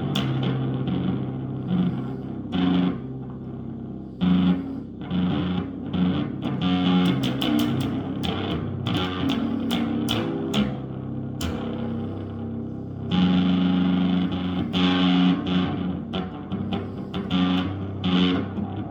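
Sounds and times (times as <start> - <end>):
electric bass guitar plucked: 0.0 - 18.9.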